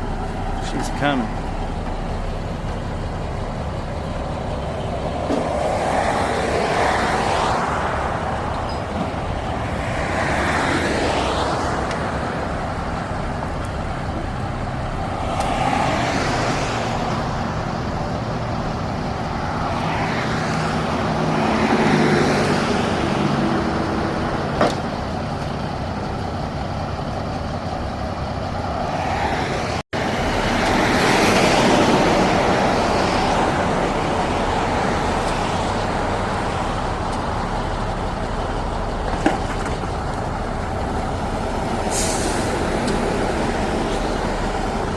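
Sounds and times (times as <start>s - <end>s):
road traffic passing: 0.0s - 44.9s
truck engine running: 0.0s - 44.9s.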